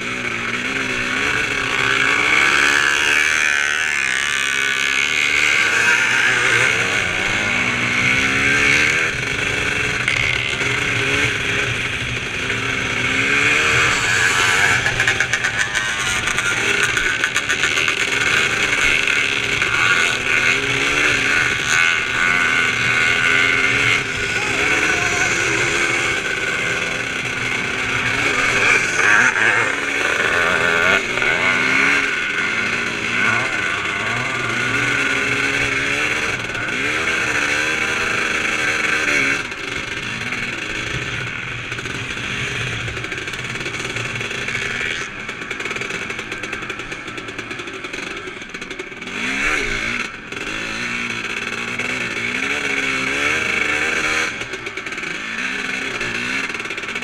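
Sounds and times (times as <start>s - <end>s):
steady rushing noise: 0.0s - 49.1s
motocross bike engine revving: 0.0s - 57.0s.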